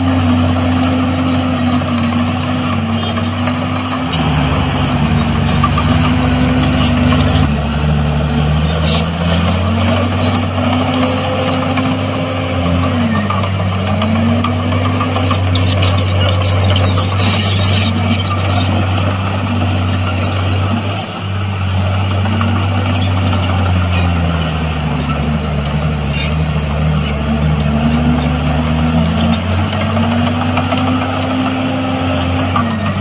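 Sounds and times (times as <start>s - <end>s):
heavy machinery diesel engine: 0.0s - 33.0s.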